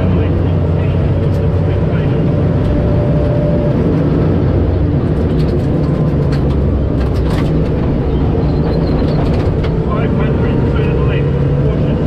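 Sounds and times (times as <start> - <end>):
gravel road noise: 0.0 - 12.0
rally car engine at speed: 0.0 - 12.0.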